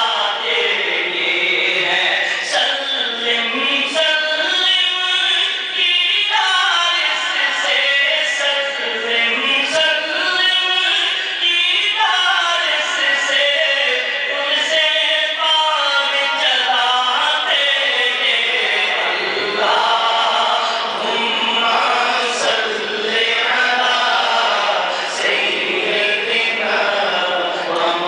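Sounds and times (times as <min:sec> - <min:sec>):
man singing into microphone: 0:00.0 - 0:28.0.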